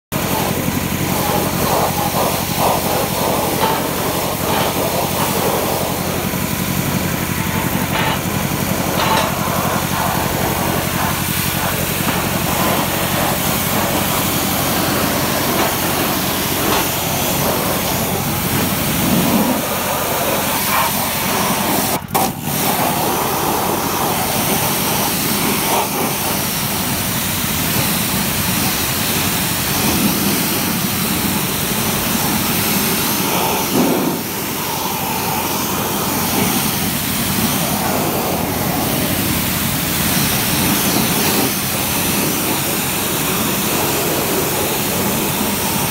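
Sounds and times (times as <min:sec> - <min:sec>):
pump humming: 0:00.1 - 0:45.9
water jet hissing: 0:00.2 - 0:45.9.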